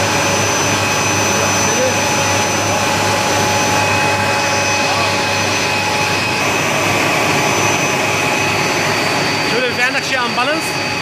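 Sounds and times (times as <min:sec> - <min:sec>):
high steady whine tones: 0:00.0 - 0:11.0
machinery drone: 0:00.0 - 0:11.0.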